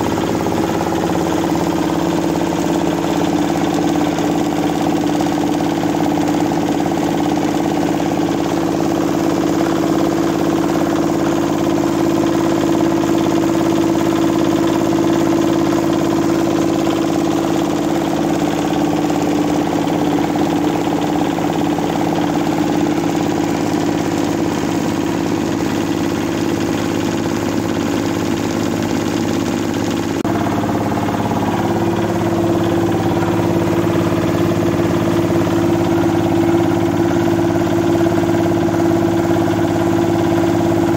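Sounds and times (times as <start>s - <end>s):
diesel engine running: 0.0s - 40.9s
mill machinery humming: 0.0s - 40.9s.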